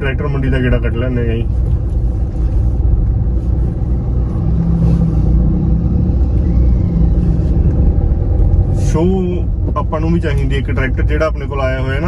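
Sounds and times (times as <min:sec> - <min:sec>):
vehicle engines and road noise: 0:00.0 - 0:12.0.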